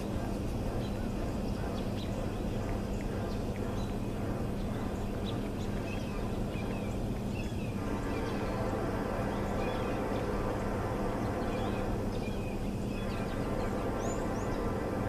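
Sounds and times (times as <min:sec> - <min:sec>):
birds chirping: 0:00.0 - 0:15.0
constant hum: 0:00.0 - 0:15.0.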